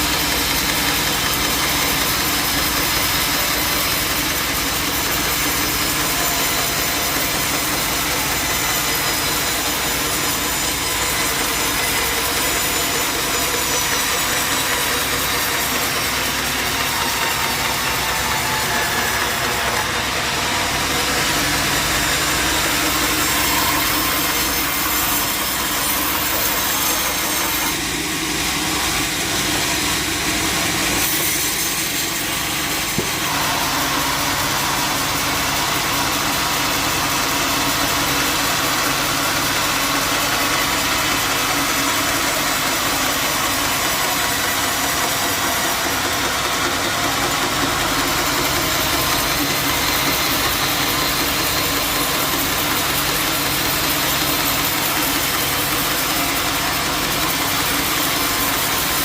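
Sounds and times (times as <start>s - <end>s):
saw blade cutting wood: 0.0s - 59.0s.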